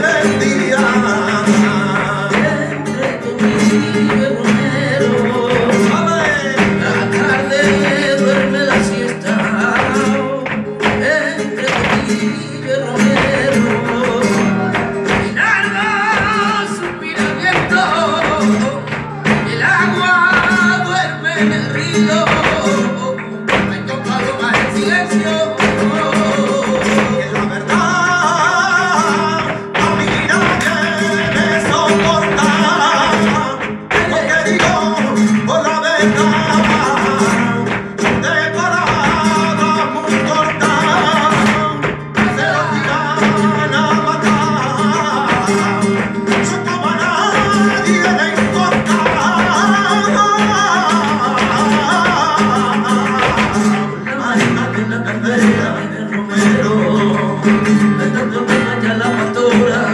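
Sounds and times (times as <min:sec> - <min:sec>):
flamenco guitar: 0:00.0 - 0:59.9
person singing: 0:00.0 - 0:59.9.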